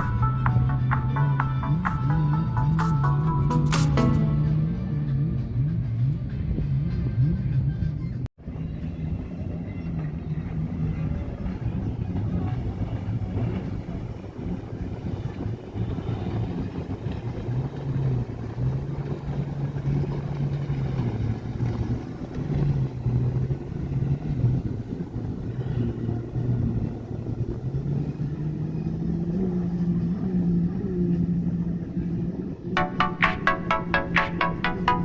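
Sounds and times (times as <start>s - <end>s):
motorboat engine hum: 0.0s - 35.0s.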